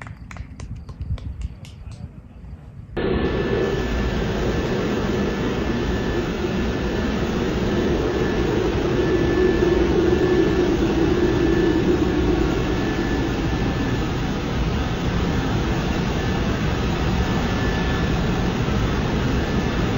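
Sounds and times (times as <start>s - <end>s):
aircraft engine rumble: 0.0s - 19.9s.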